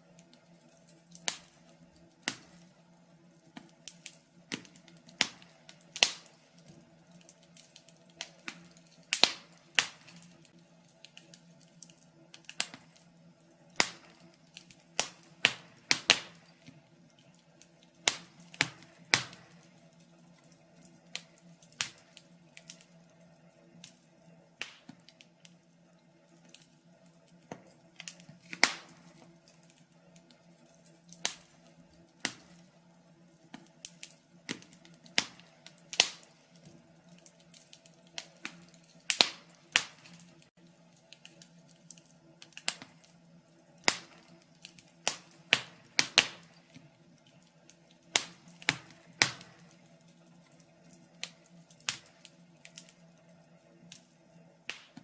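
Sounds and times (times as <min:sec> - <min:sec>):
faint steady hum: 0:00.0 - 0:55.0
log fire crackling: 0:00.0 - 0:55.0.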